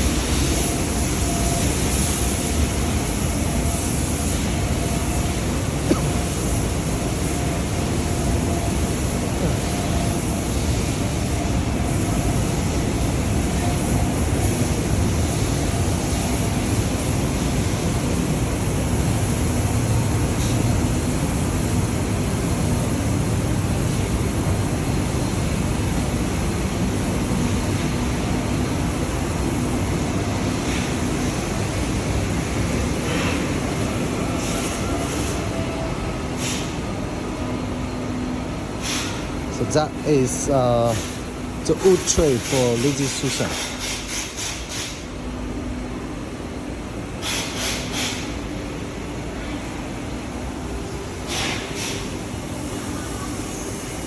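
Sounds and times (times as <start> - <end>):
factory machinery noise: 0.0 - 54.0
ventilation noise: 0.0 - 54.0.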